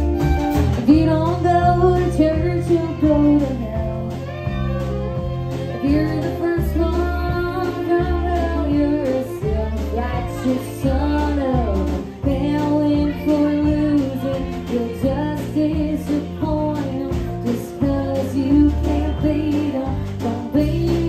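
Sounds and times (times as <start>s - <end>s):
band accompaniment: 0.0s - 21.0s
bass line: 0.0s - 21.0s
woman singing country song: 0.0s - 21.0s.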